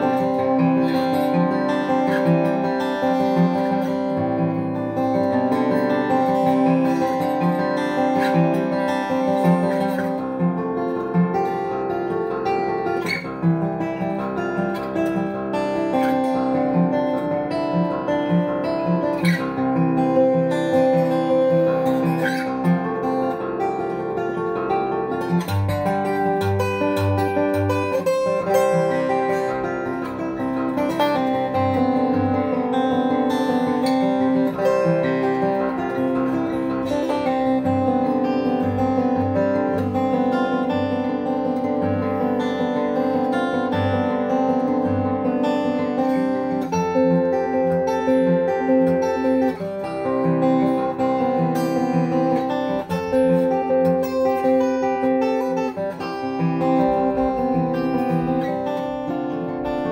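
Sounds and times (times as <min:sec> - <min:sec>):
acoustic guitar plucked: 0:00.0 - 0:59.9.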